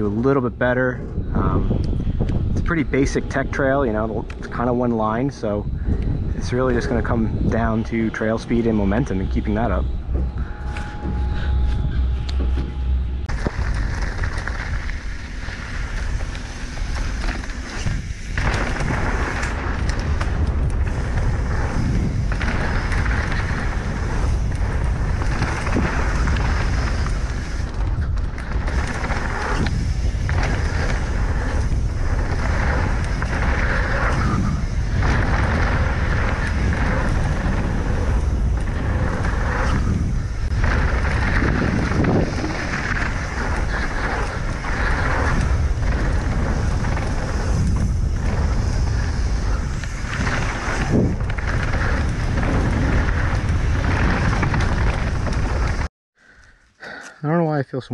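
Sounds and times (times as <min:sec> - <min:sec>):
wind buffeting microphone: 0:00.0 - 0:55.9
bike tyres rolling and rattling: 0:00.0 - 0:56.5.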